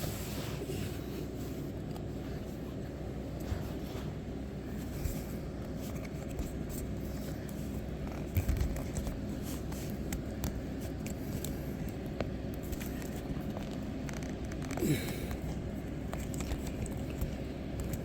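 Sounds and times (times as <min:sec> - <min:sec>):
light clicks and scrapes: 0:00.0 - 0:18.0
steady low hum: 0:00.0 - 0:18.0.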